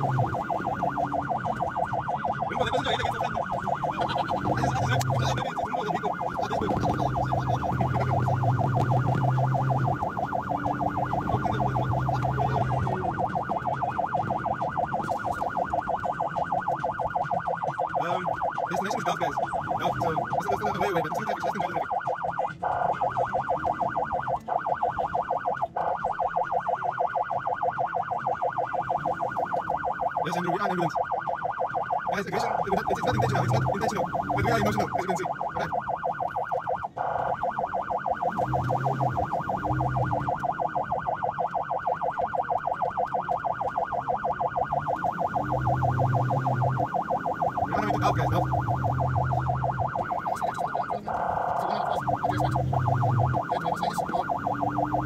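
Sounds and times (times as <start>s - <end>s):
electronic siren warbling: 0.0s - 55.0s.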